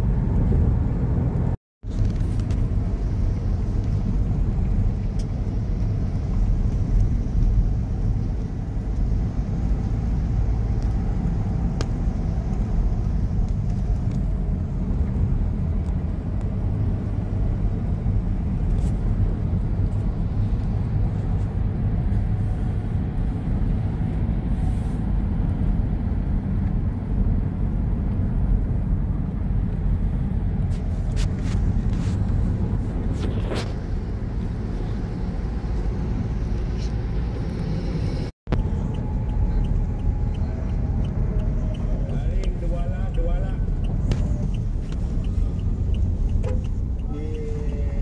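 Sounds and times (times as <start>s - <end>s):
road and engine rumble: 0.0s - 48.0s.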